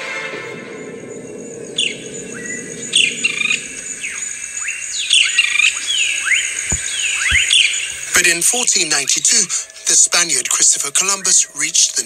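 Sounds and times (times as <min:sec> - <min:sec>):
high insect drone: 0:00.1 - 0:12.0
birds whistling and chirping: 0:00.7 - 0:12.0.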